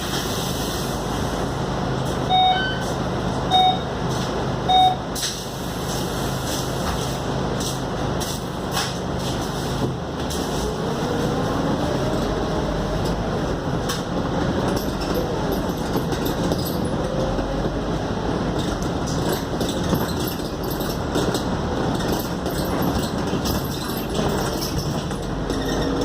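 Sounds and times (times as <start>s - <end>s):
bus engine: 0.0s - 26.0s
road noise: 0.0s - 26.0s.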